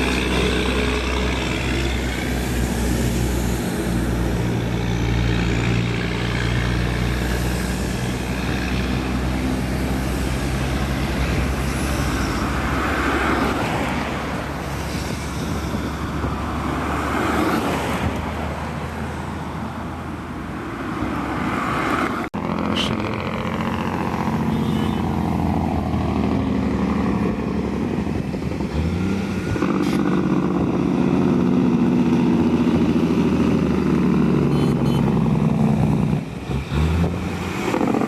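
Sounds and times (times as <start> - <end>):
road noise: 0.0 - 38.0.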